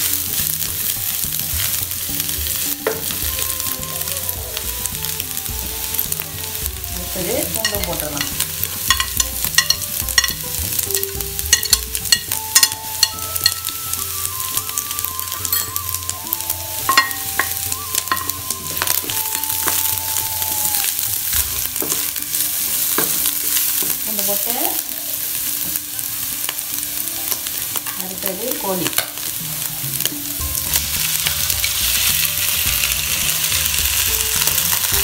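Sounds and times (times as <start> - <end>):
garlic sizzling in hot oil: 0.0 - 35.0.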